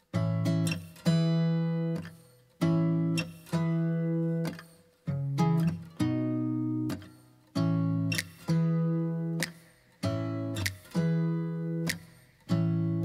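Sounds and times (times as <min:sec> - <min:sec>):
guitar chords strummed: 0:00.0 - 0:13.0.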